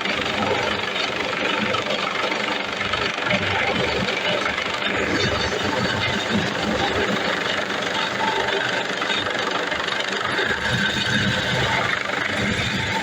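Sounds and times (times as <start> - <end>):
helicopter rotor and turbine: 0.0 - 13.0.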